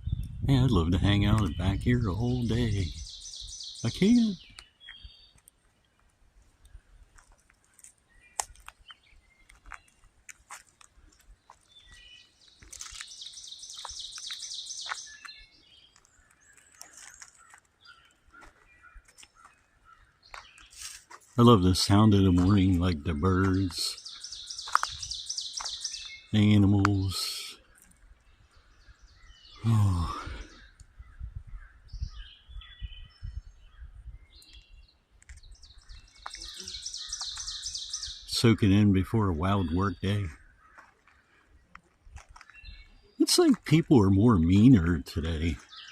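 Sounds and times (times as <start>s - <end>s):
lower bird calls: 0.0s - 10.1s, 10.9s - 45.9s
songbirds chirping: 0.0s - 45.9s.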